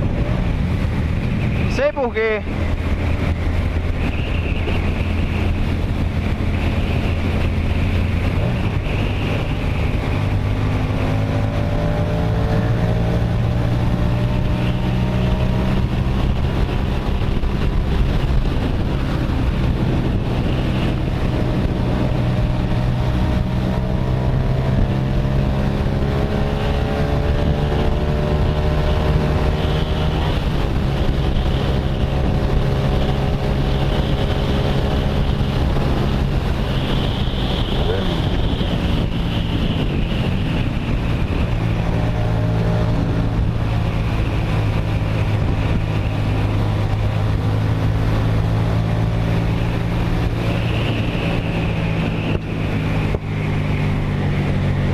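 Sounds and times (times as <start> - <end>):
motorcycle engine revving: 0.0 - 54.9
wind rush: 0.0 - 54.9.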